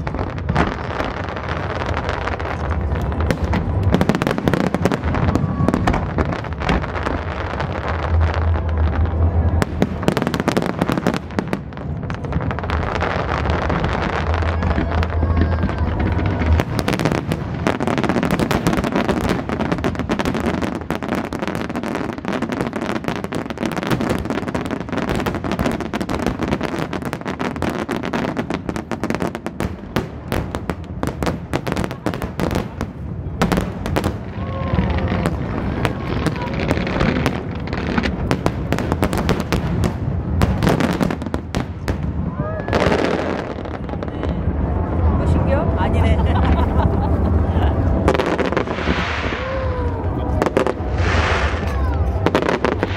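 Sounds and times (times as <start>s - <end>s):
fireworks bursting and popping: 0.0s - 52.9s.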